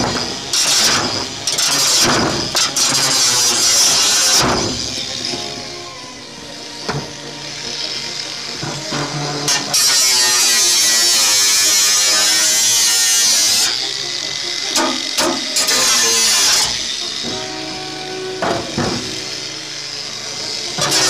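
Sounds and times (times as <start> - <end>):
angle grinder cutting sheet metal: 0.0 - 21.0.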